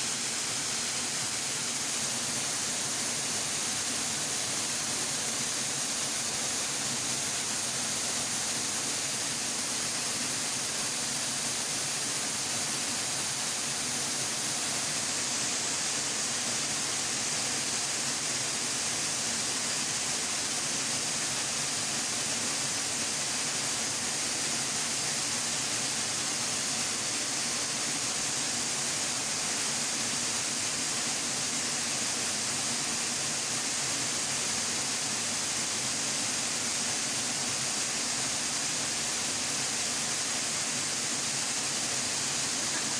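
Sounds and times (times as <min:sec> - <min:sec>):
waterfall rushing into pool: 0:00.0 - 0:42.9.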